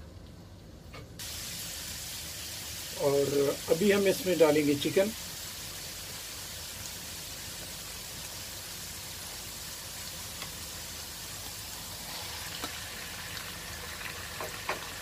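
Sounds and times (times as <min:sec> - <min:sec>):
hot oil sizzling in a wok: 0:01.1 - 0:15.0.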